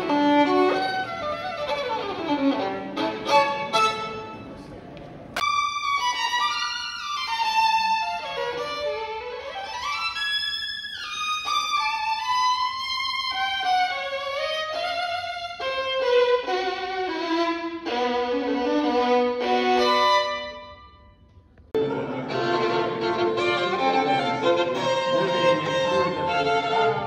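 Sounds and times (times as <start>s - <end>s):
solo violin playing: 0.0s - 4.6s, 5.4s - 21.1s, 21.8s - 27.0s.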